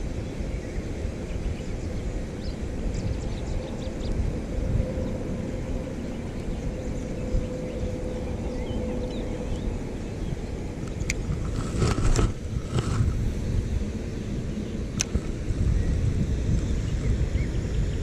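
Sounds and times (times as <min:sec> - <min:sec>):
faint steady hum: 0:00.0 - 0:18.0
wind on microphone: 0:00.0 - 0:18.0.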